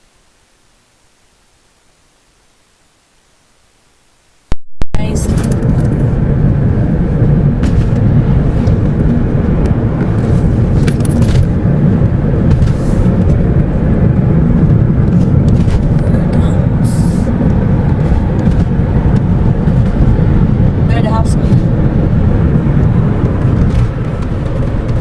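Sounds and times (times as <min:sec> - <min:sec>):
car road and engine rumble: 0:05.0 - 0:25.0.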